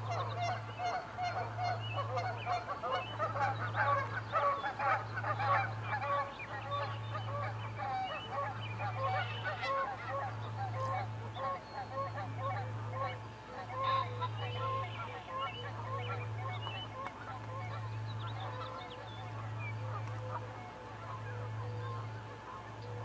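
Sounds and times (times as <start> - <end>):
birds calling: 0.0 - 23.0
steady low hum: 0.0 - 23.0.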